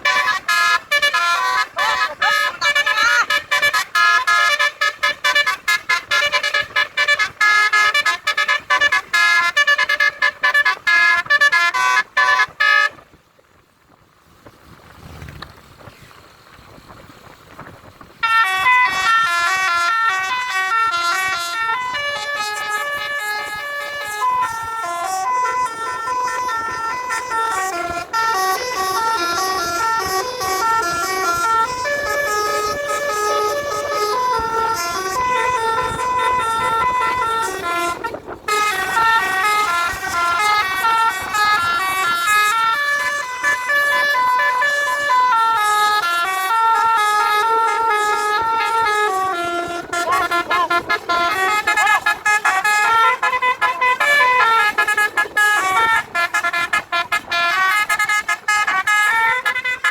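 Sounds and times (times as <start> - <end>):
multi-tone vehicle horns playing melodies: 0.0 - 13.6, 17.6 - 59.9.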